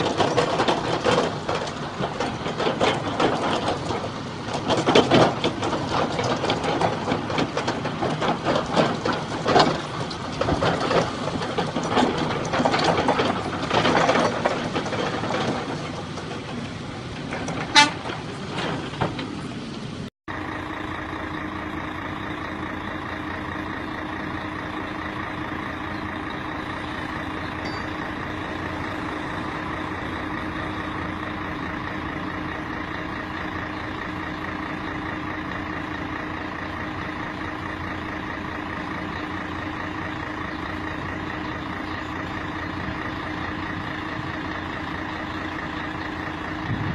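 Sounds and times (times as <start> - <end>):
heavy machinery knocking and crunching: 0.0 - 46.9
steady engine drone: 0.0 - 46.9.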